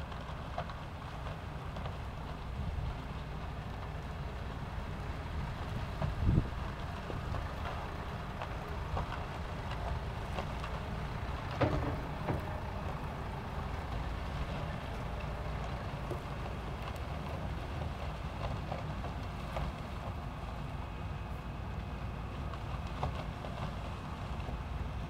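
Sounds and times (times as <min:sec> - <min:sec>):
cane crackling: 0:00.0 - 0:21.4
harvester engine drone: 0:00.0 - 0:25.0.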